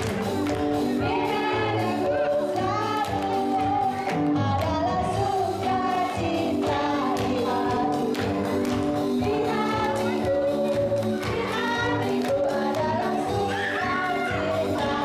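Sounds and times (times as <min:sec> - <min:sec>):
upbeat worship song singing: 0:00.0 - 0:15.0.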